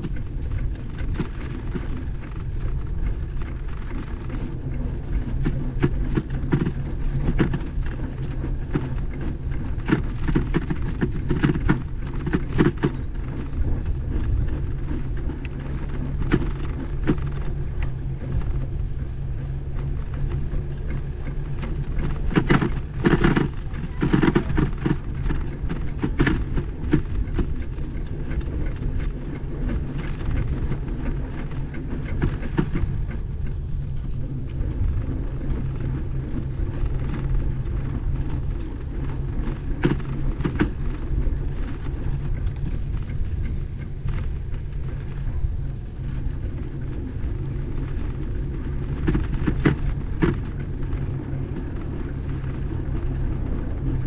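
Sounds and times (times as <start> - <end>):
bicycle rolling over brick pavers: 0.0 - 54.0
bike clicks and rattles: 0.0 - 54.0.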